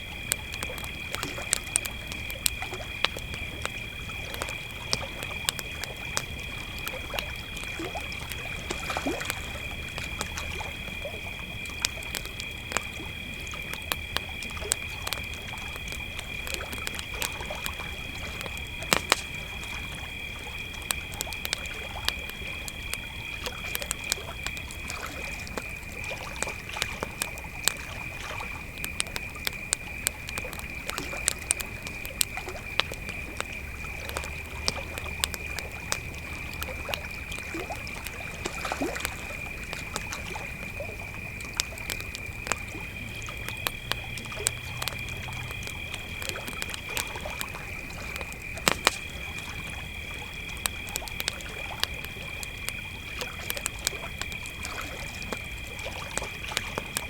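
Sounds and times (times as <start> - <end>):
campfire crackling and popping: 0.0 - 57.0
crickets trilling: 0.0 - 57.0
higher-pitched cricket: 0.0 - 57.0.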